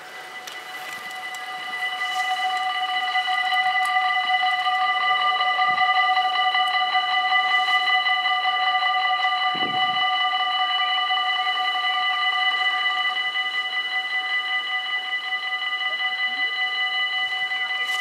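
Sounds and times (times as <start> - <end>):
level crossing bells ringing: 0.0 - 18.0.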